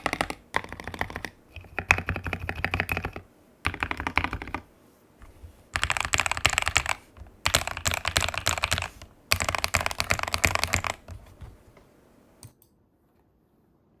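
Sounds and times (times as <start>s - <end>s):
fast typing on mechanical keyboard: 0.0s - 11.8s.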